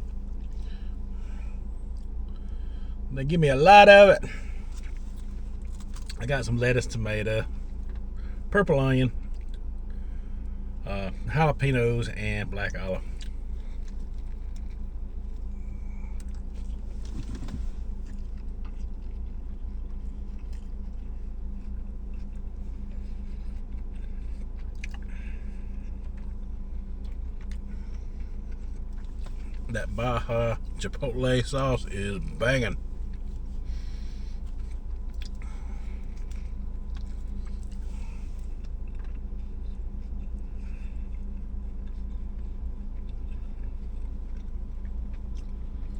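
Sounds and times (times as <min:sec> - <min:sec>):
man chewing food: 0:00.0 - 0:03.1, 0:04.2 - 0:06.2, 0:07.5 - 0:08.5, 0:09.2 - 0:11.2, 0:13.0 - 0:45.9
low background hum: 0:00.0 - 0:45.9.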